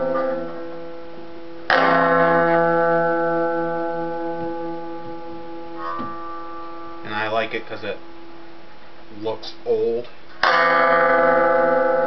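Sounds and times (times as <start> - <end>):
guitar chord strummed and ringing: 0.0 - 8.7, 10.4 - 12.0.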